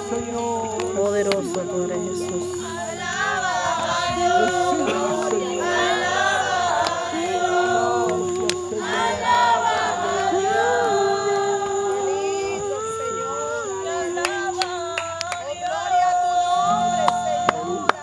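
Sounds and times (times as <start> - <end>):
chant-like voices: 0.0 - 18.0
people praying aloud: 0.0 - 18.0.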